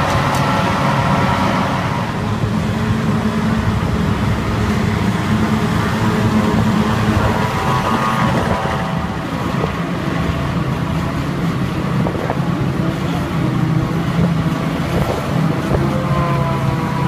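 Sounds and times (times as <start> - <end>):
machinery engines droning: 0.0 - 17.0.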